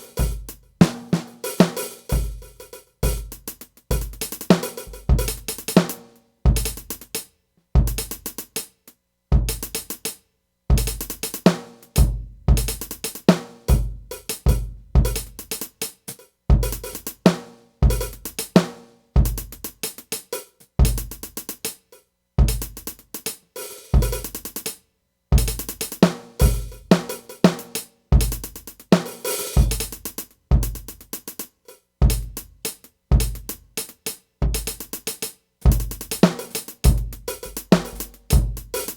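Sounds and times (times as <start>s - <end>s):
drum kit playing: 0.0s - 7.2s, 7.8s - 8.7s, 9.3s - 15.9s, 16.5s - 21.8s, 22.4s - 24.8s, 25.4s - 38.9s.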